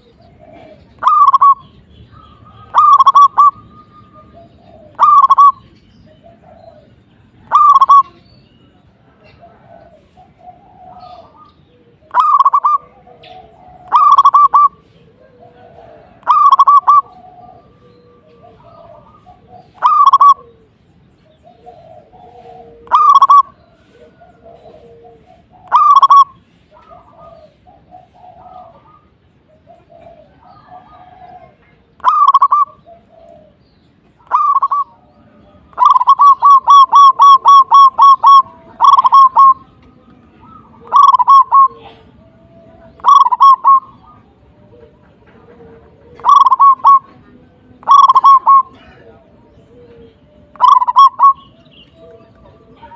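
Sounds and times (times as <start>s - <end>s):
dove cooing: 0.0s - 8.2s, 8.8s - 52.9s.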